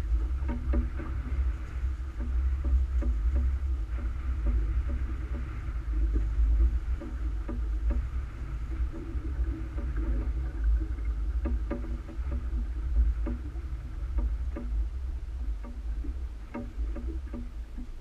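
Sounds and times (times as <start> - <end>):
boat low rumble: 0.0 - 18.0
faint ticks: 0.0 - 18.0.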